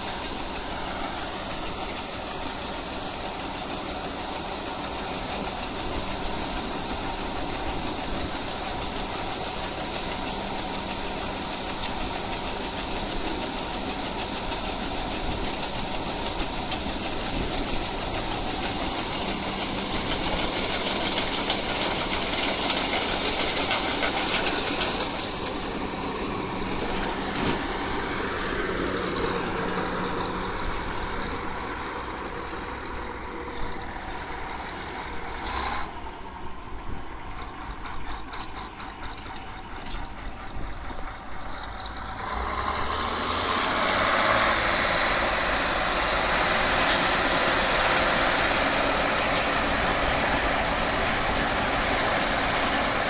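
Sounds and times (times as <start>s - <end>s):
grain pouring hiss: 0.0s - 36.0s, 41.4s - 53.0s
diesel engine running: 0.0s - 53.0s.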